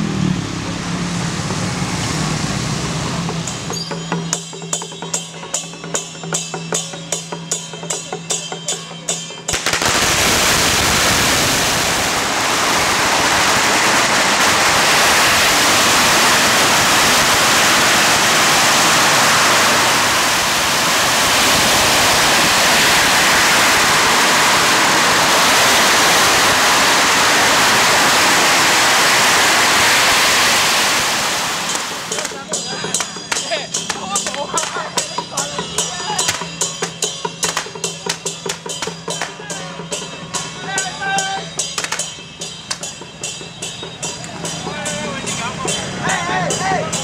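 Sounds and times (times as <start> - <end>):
firecrackers crackling: 9.1 - 47.0.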